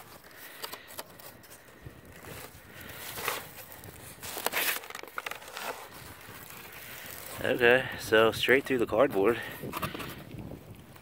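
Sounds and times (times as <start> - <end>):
cardboard scraping and rustling: 0.0 - 10.2.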